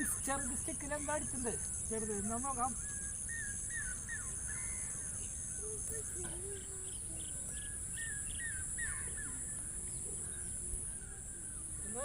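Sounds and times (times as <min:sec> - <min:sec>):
short bird calls: 0:01.9 - 0:12.0.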